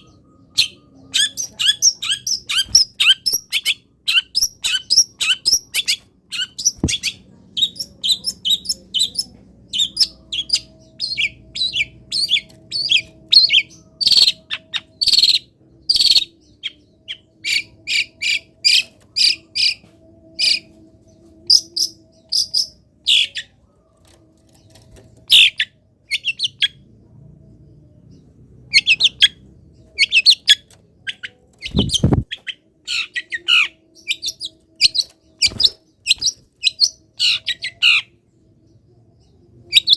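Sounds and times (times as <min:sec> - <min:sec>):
bird singing high chirps: 0:00.0 - 0:23.8, 0:28.0 - 0:39.9.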